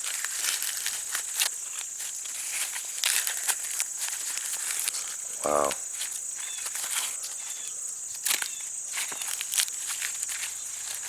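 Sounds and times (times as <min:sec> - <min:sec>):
corn husks crinkling and tearing: 0:00.0 - 0:11.0
high insect drone: 0:00.0 - 0:11.0.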